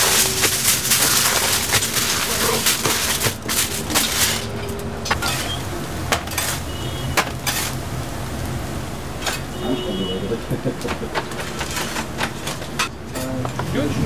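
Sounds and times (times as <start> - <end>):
plates and utensils clinking: 0.0 - 7.8, 9.2 - 13.8.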